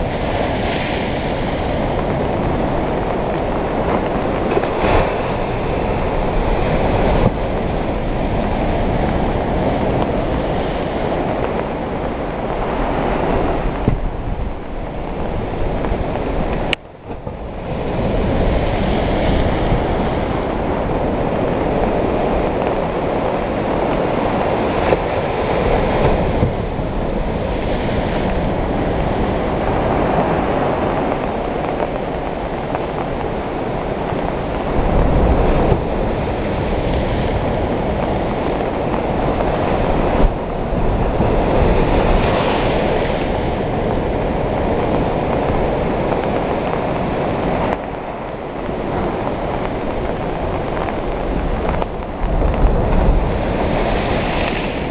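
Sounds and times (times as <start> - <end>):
waves washing onto beach: 0.0 - 54.9.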